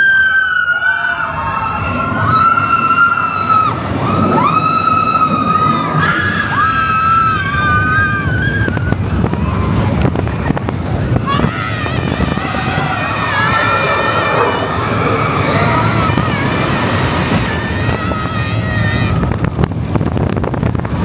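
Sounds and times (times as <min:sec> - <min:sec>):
people screaming: 0:00.0 - 0:19.8
roller coaster train rumble: 0:00.0 - 0:21.0.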